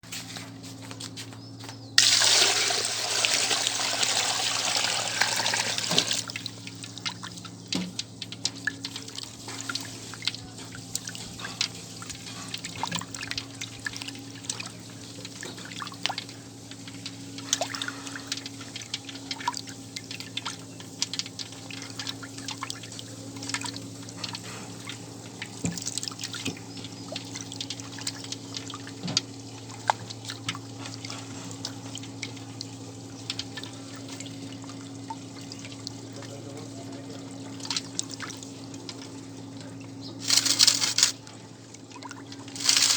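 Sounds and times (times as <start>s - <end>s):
steady low hum: 0.0s - 42.9s
water dripping and splashing: 2.0s - 42.9s
water pouring: 2.0s - 42.9s.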